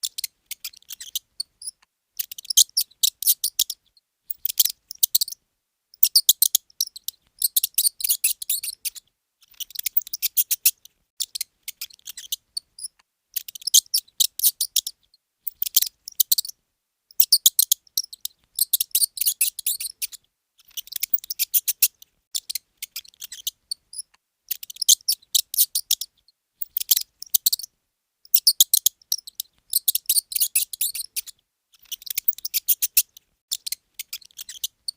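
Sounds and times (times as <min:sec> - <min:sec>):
mouse squeaking: 0:00.0 - 0:05.4, 0:06.0 - 0:27.7, 0:28.3 - 0:34.9.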